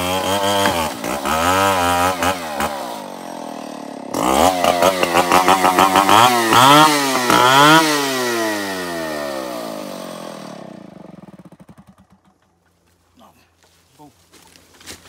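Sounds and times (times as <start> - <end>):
chainsaw cutting a log: 0.0 - 12.7
chainsaw revving: 0.0 - 12.7.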